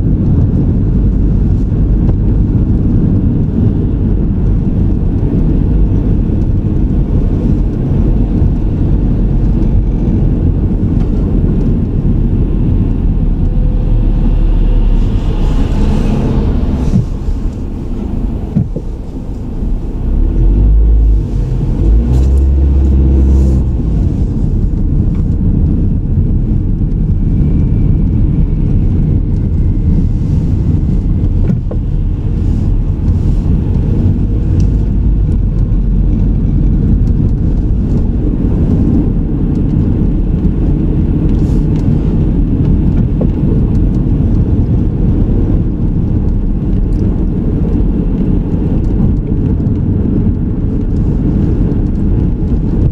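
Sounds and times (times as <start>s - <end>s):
car engine and road rumble: 0.0s - 52.9s.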